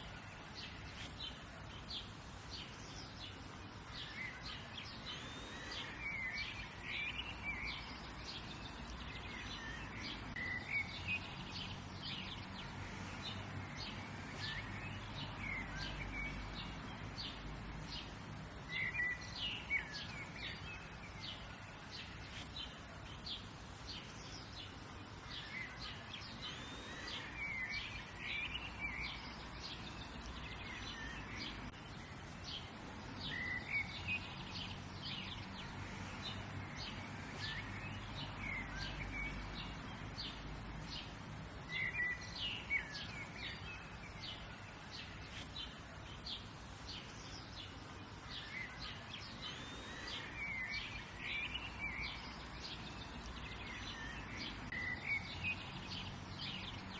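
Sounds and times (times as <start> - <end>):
birds chirping: 0.0 - 56.9
steady background hiss: 0.0 - 56.9
warbling bird song: 0.0 - 56.9.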